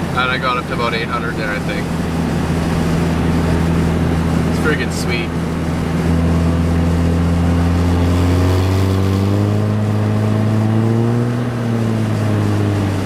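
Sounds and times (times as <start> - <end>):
turbodiesel car engine accelerating: 0.0 - 13.0.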